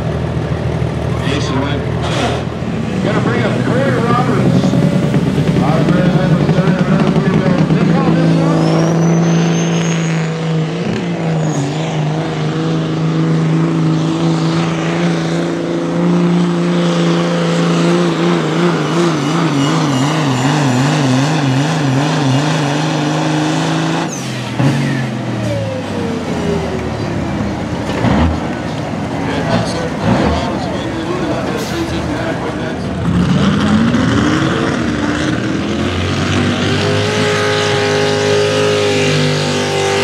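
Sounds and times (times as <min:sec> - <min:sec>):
diesel truck engine at full throttle: 0:00.0 - 0:40.0.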